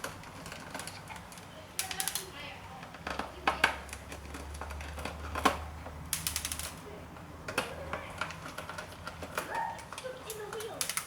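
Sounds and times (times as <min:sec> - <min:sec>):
small metal clicks and rattles: 0:00.0 - 0:11.0.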